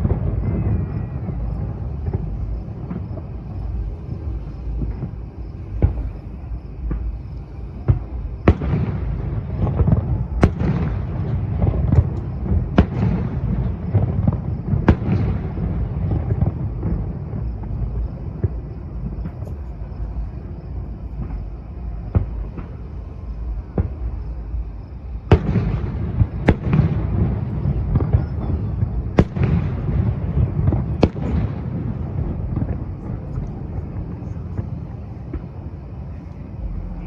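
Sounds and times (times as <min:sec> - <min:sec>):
fireworks bangs: 0:00.0 - 0:37.0
fireworks crackle: 0:00.0 - 0:37.0
low continuous rumble: 0:00.0 - 0:37.0.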